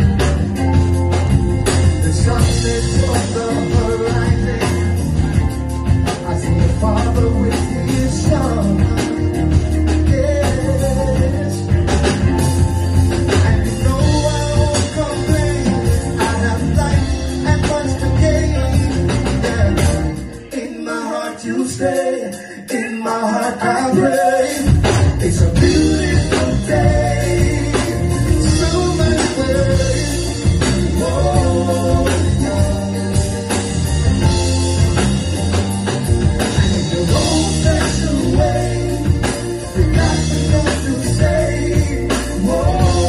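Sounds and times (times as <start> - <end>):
live rock band playing: 0.0 - 43.0
person singing: 1.9 - 5.2, 6.0 - 12.1, 13.3 - 33.9, 36.5 - 43.0.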